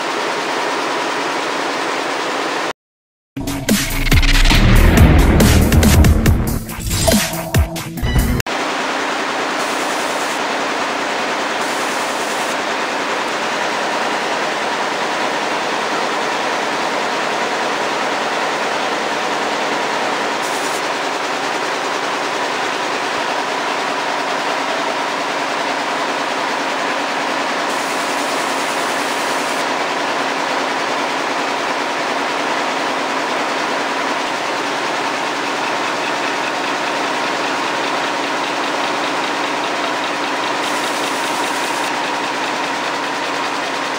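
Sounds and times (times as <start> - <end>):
weaving looms running: 0.0 - 2.7, 8.5 - 43.9.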